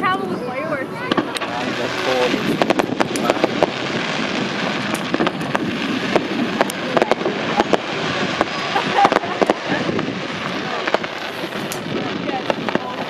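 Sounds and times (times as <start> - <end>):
fireworks cracking and popping: 0.0 - 13.0
noisy rumble: 0.0 - 13.0.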